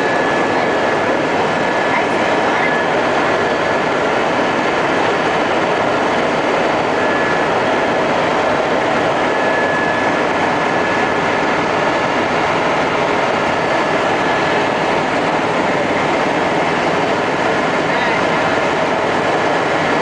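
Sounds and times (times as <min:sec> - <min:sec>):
helicopter engine and rotor noise: 0:00.0 - 0:20.0.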